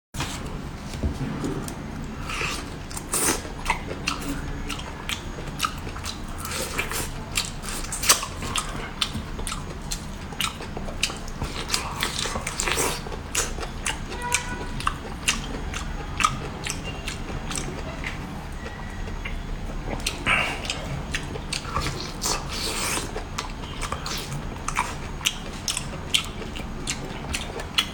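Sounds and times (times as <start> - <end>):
person chewing seafood: 1.5 - 27.9.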